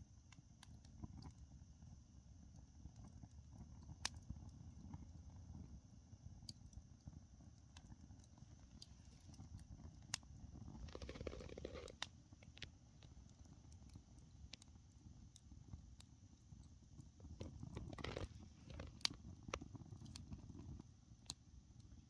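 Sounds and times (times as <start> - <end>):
campfire crackling and popping: 0.2 - 22.0.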